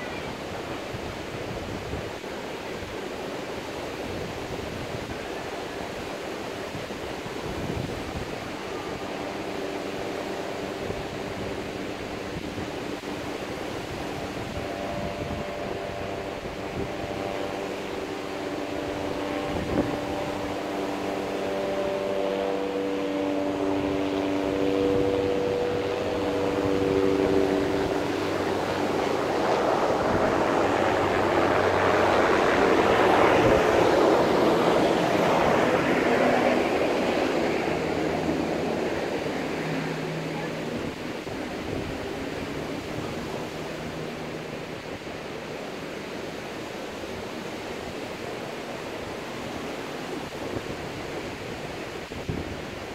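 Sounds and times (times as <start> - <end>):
helicopter flying by: 0.0 - 52.9
surf: 0.0 - 52.9
wind: 0.0 - 52.9.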